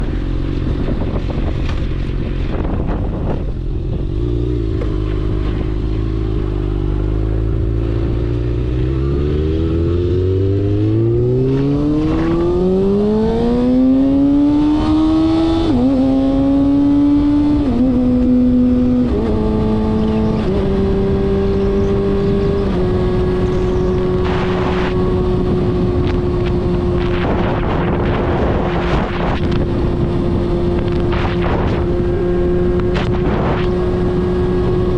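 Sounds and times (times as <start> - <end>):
car engine revving: 4.4 - 34.9.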